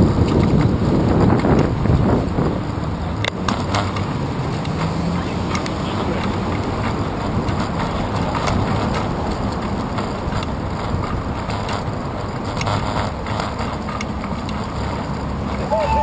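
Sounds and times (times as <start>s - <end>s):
wind on camera: 0.0s - 14.9s
bicycle rolling over concrete: 0.0s - 16.0s
bike ticks and rattles: 0.0s - 16.0s.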